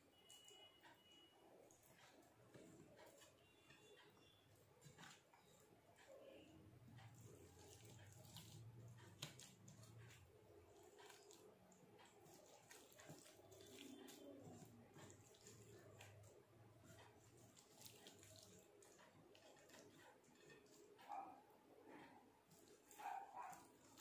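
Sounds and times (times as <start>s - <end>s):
fingers squishing food: 1.6s - 21.4s.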